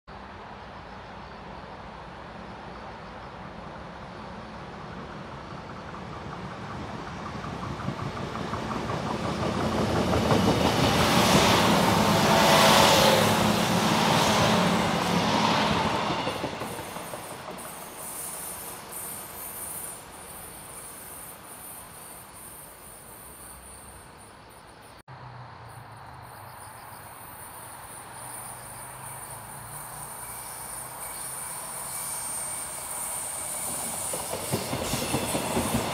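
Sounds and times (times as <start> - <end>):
passenger train passing: 0.1 - 25.0, 25.7 - 35.9.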